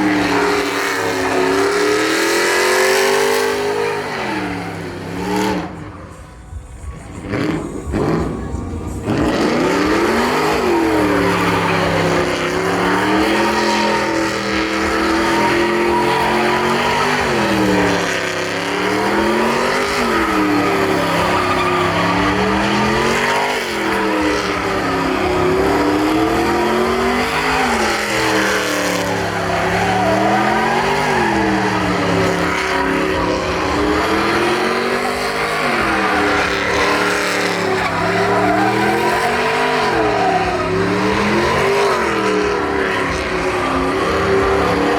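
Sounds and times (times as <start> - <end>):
truck engine revving: 0.0 - 44.9
tyres squealing on pavement: 0.0 - 44.9.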